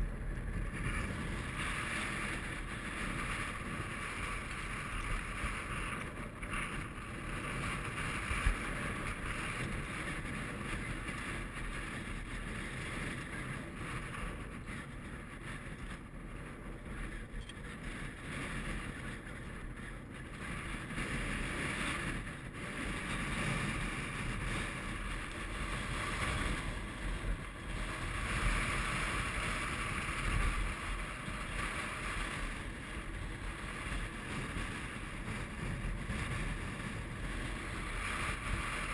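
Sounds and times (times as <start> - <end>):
strong wind on microphone: 0.0 - 38.9.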